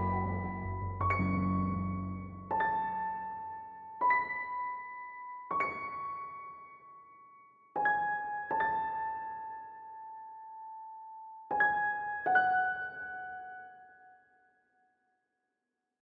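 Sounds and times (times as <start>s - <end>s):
slow piano melody: 0.0s - 14.4s.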